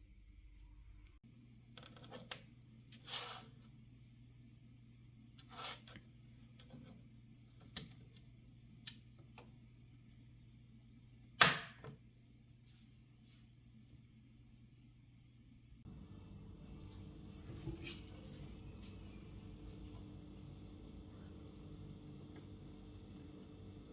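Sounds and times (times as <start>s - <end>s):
steady low hum: 2.4s - 23.9s.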